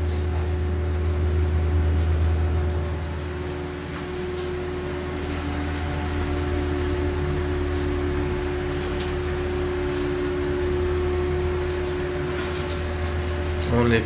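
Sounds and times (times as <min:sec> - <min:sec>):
extractor fan humming: 0:00.0 - 0:14.0.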